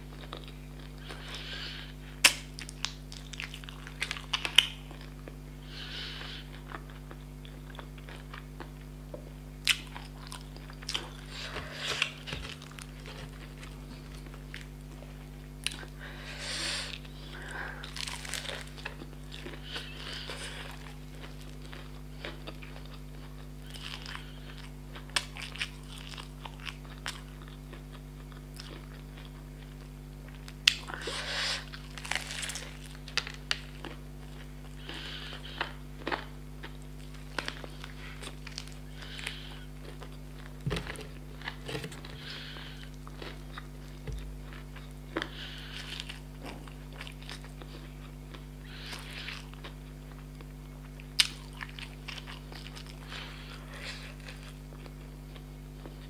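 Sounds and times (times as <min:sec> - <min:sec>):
crunching fried chicken: 0:00.0 - 0:08.9, 0:09.6 - 0:56.0.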